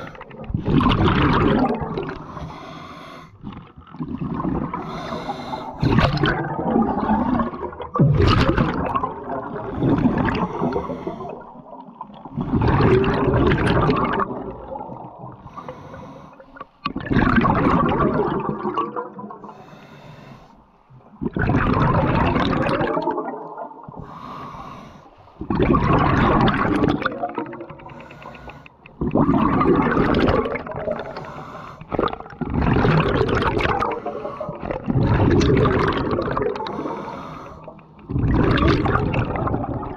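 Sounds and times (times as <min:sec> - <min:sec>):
diver exhaling bubbles: 0:00.0 - 0:15.8, 0:16.8 - 0:19.7, 0:21.1 - 0:24.8, 0:25.4 - 0:39.9.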